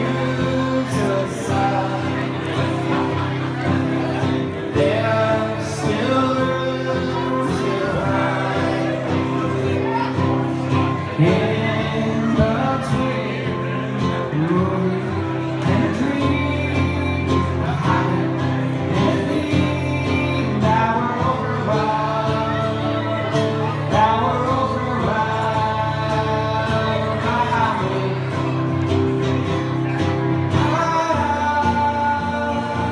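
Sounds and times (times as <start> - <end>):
acoustic guitar strumming: 0.0 - 32.9
man singing: 0.0 - 32.9.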